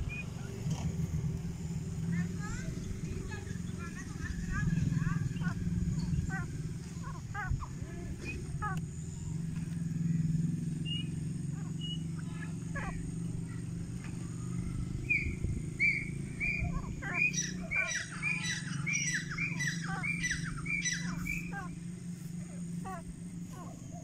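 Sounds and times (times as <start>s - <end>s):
francolins calling: 0.0s - 24.0s
steady low hum: 0.0s - 24.0s.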